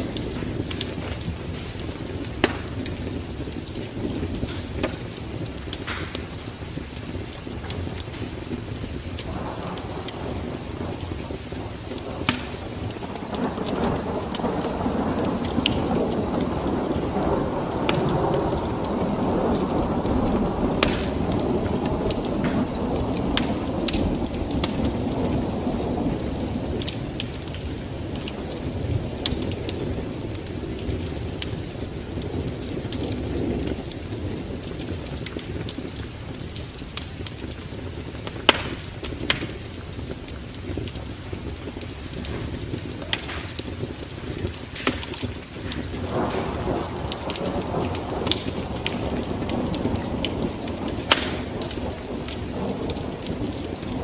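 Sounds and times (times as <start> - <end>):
sharp crackling pops: 0.0 - 31.6, 32.2 - 54.0
low roll of thunder: 0.0 - 54.0
rain falling: 0.0 - 54.0.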